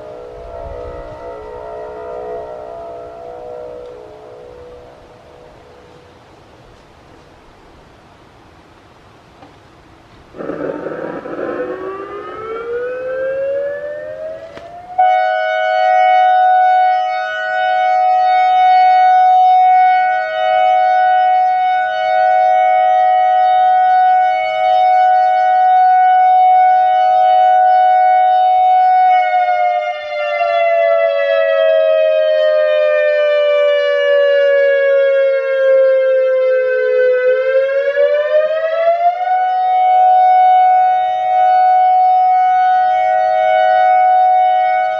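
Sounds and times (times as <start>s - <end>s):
electronic siren: 0.0s - 6.3s, 10.3s - 44.9s.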